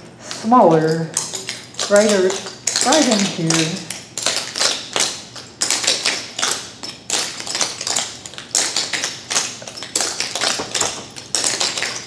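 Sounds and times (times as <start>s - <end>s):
tap shoes clicking on hard floor: 1.2s - 12.0s.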